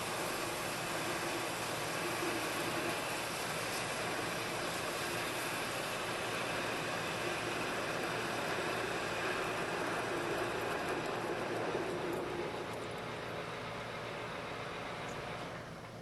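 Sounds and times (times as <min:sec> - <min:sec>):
metal lathe cutting aluminum: 0:00.0 - 0:15.0.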